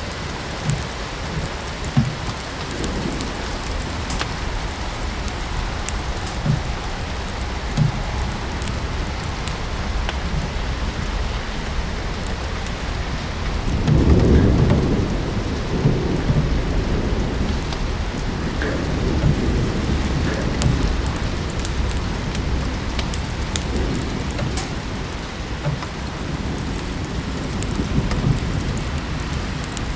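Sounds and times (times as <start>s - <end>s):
fireplace crackling: 0.0s - 29.9s
low rumble of thunder: 0.0s - 29.9s
steady rain: 0.0s - 29.9s.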